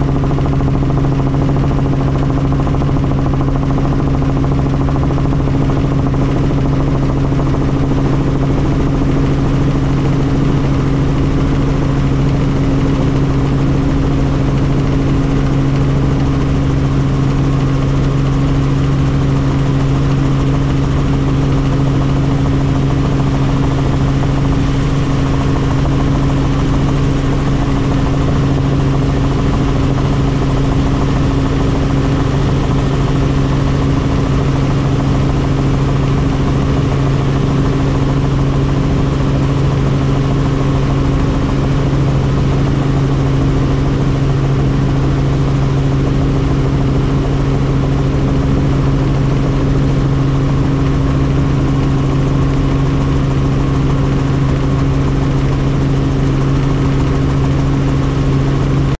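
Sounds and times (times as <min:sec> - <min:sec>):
helicopter engine and rotors: 0:00.0 - 0:58.9.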